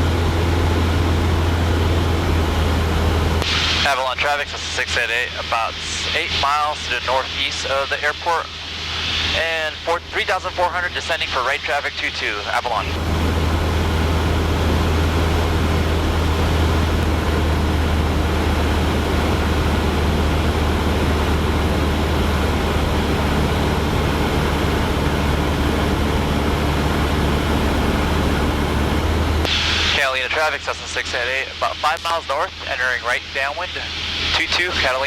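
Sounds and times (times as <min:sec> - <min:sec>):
airplane engine droning: 0:00.0 - 0:35.0.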